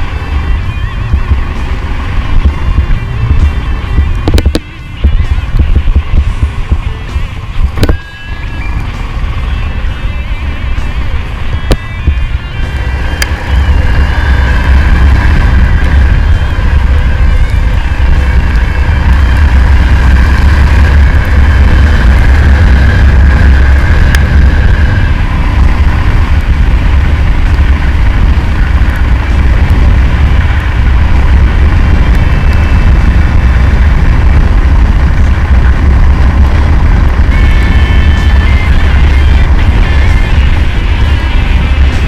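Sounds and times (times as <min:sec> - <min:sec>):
motorcycle engine rumbling: 0:00.0 - 0:42.0.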